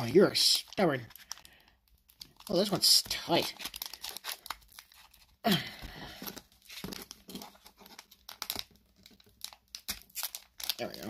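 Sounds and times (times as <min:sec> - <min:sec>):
foil pack crinkling and tearing: 0:00.0 - 0:11.0.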